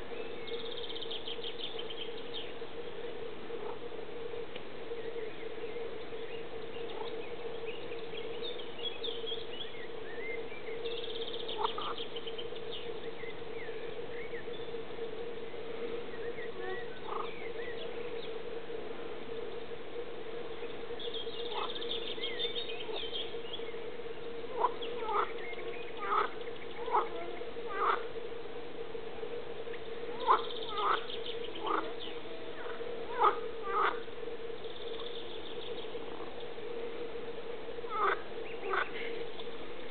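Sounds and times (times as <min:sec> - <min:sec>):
birds chirping: 0:00.0 - 0:18.7, 0:19.3 - 0:28.4, 0:29.2 - 0:39.9
frogs croaking: 0:00.0 - 0:39.9
steady hum: 0:00.0 - 0:39.9.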